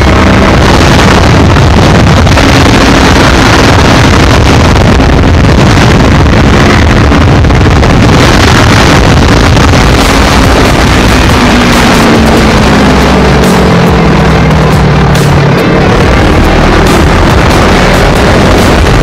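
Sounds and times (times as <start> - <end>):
motorcycle engine running: 0.0 - 19.0
wind rush on microphone: 0.0 - 19.0.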